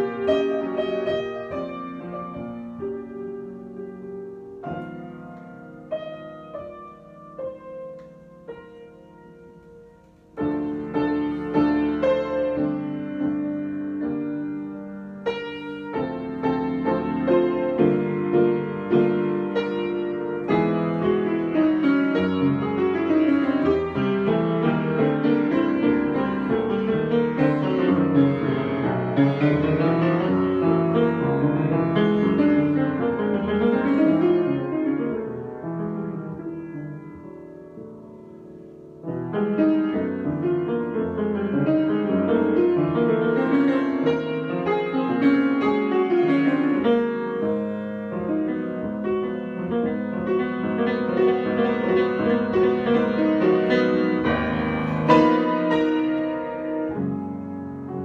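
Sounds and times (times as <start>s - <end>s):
solo piano: 0.0s - 58.0s.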